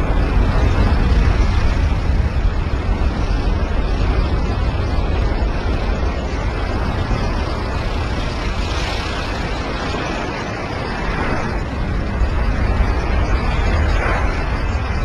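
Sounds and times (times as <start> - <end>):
hurricane wind: 0.0 - 15.0
surf: 0.0 - 15.0
wind buffeting microphone: 0.0 - 15.0.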